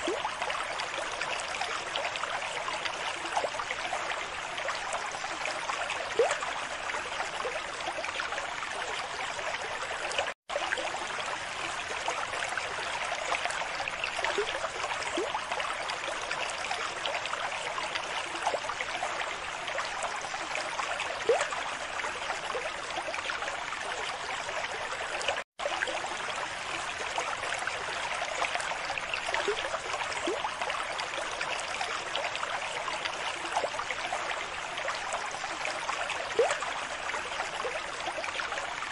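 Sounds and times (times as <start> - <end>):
aquarium water bubbling: 0.0 - 38.9.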